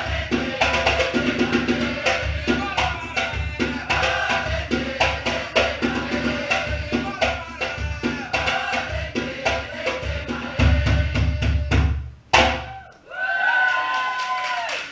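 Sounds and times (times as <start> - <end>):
deep bass drum beats: 0.0 - 12.7
sharp higher drum strokes: 0.0 - 12.8.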